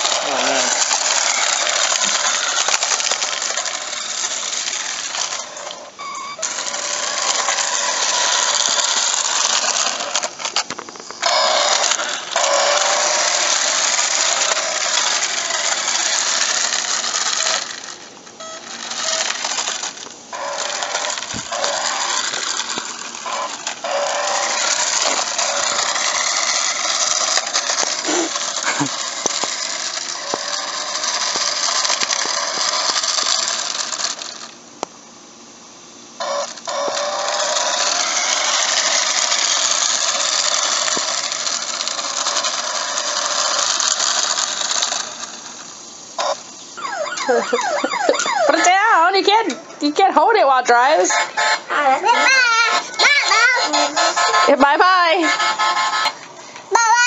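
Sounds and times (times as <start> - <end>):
toy car motor buzzing rattle: 0.0 - 34.8, 36.1 - 57.0.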